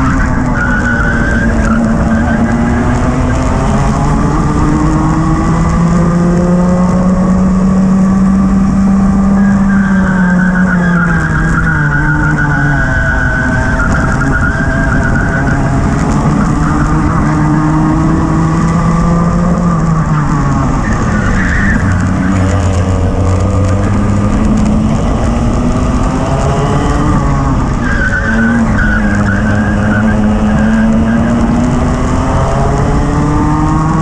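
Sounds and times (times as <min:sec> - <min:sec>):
kart engine racing: 0:00.0 - 0:34.0.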